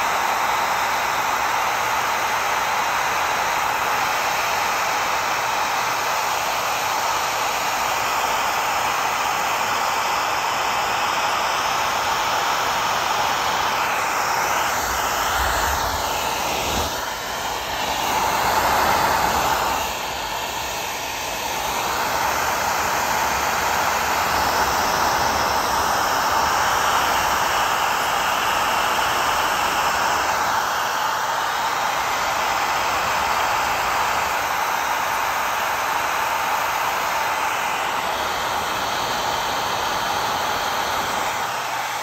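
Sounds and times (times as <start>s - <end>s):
hot-air blower rushing: 0.0s - 42.0s.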